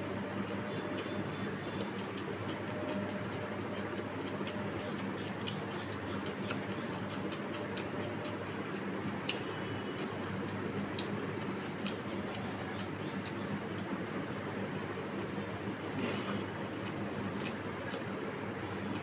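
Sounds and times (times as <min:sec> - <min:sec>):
low background hum: 0:00.0 - 0:19.0
chewing: 0:00.2 - 0:13.5, 0:16.0 - 0:18.1.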